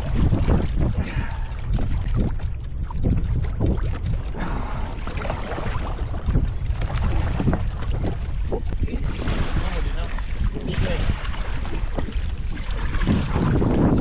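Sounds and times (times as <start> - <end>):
water splashing: 0.0 - 14.0
wind buffeting microphone: 0.0 - 14.0.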